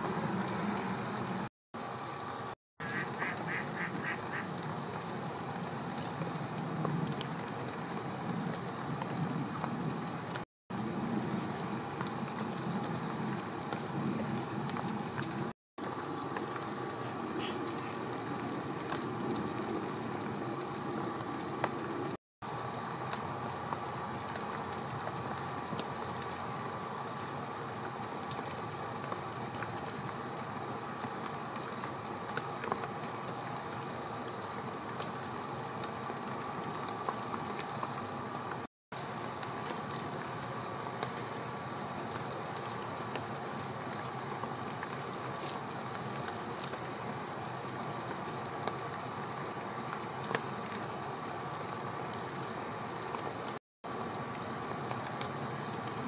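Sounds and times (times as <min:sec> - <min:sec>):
low rushing water: 0:00.0 - 0:56.0
rain hissing on river: 0:00.0 - 0:56.0.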